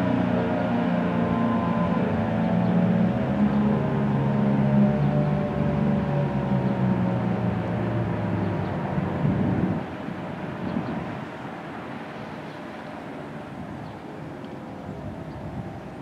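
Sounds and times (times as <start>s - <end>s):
rotating tornado siren: 0.0s - 16.0s.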